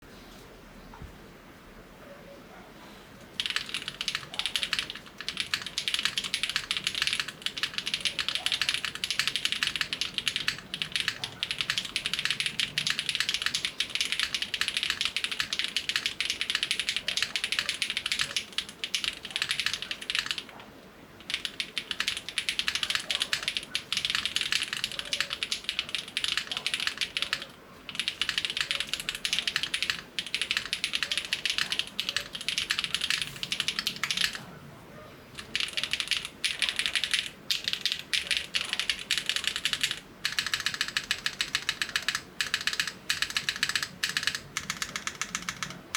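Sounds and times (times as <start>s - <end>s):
mechanical keyboard typing: 3.3s - 20.6s, 21.2s - 34.5s, 35.4s - 45.9s.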